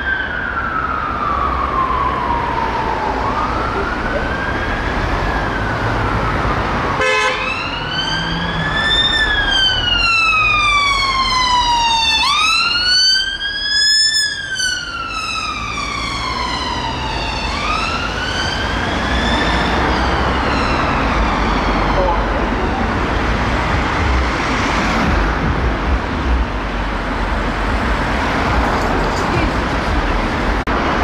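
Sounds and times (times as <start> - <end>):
police siren wailing: 0.0 - 30.4
low traffic hum: 0.0 - 31.0.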